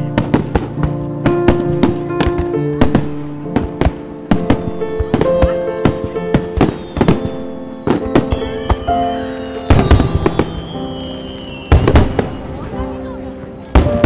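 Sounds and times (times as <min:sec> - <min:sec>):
background music: 0:00.0 - 0:14.0
fireworks bangs and crackles: 0:00.0 - 0:14.0.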